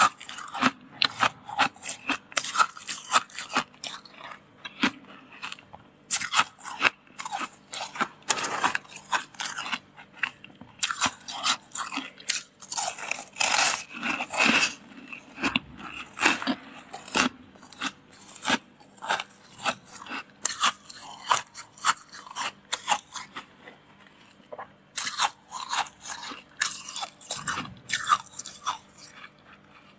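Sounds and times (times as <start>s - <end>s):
frost crunching when chewed: 0.0s - 29.9s.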